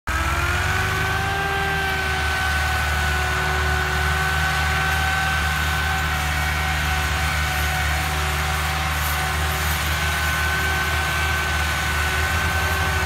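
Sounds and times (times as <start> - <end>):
engine whine: 0.1 - 13.0
tractor diesel engines under load: 0.1 - 13.0.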